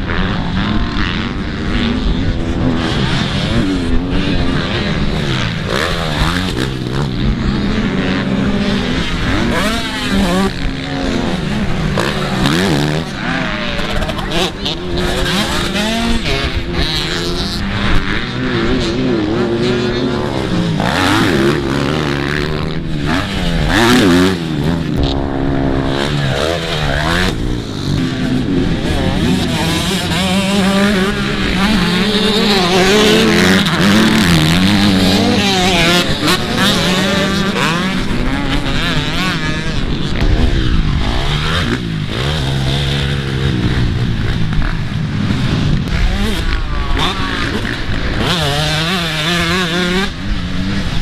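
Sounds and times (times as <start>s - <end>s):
dirt bike engines revving: 0.0s - 51.0s.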